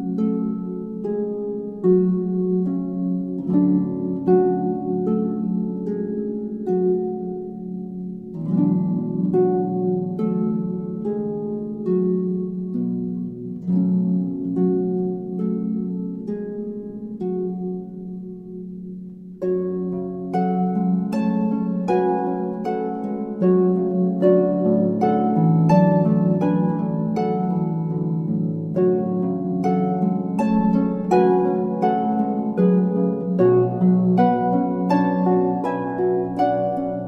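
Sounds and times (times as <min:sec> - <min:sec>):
harp playing: 0:00.0 - 0:37.0.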